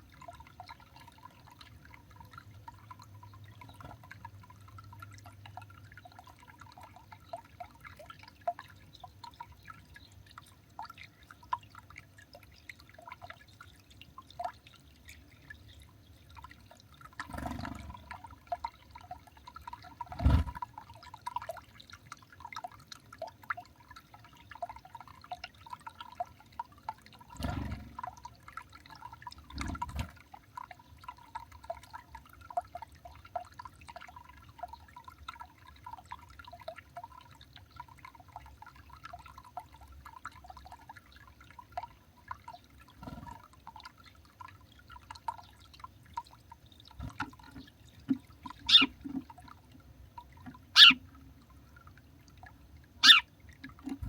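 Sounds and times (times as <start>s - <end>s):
water dripping: 0.0s - 54.0s.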